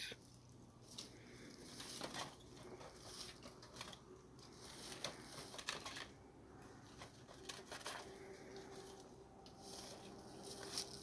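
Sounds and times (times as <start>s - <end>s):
wooden cages clicking and rustling: 0.7s - 11.0s.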